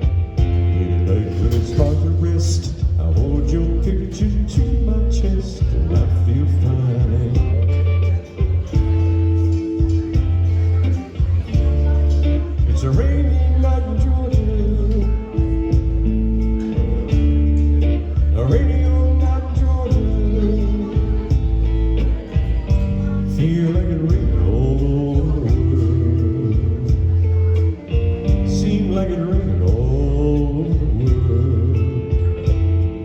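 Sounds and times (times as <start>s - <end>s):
band playing soul-blues ballad: 0.0s - 33.0s
lead guitar bending lines: 0.0s - 33.0s.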